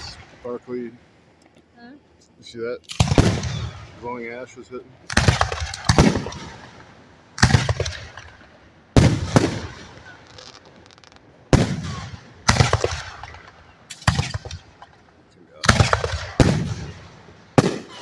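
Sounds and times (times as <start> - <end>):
firework crackling: 0.0 - 1.0, 2.9 - 18.0
firework shells booming: 0.0 - 1.0, 2.9 - 18.0.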